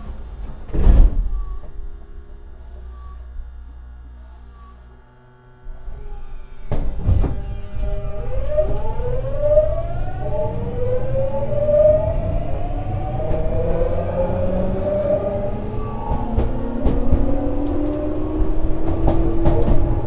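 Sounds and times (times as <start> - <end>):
wheels rumbling: 0.0 - 4.7, 5.8 - 20.0
electric train motor whine: 0.0 - 20.0.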